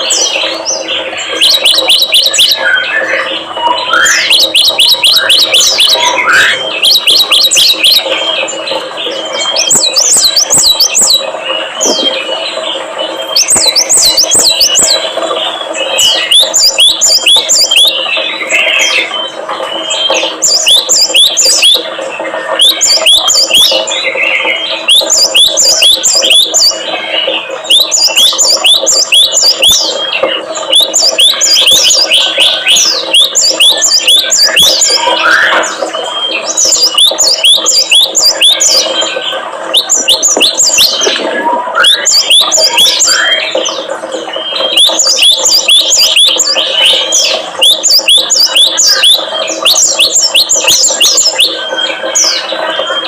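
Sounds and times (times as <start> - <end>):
small songbirds chirping: 0.0 - 53.0.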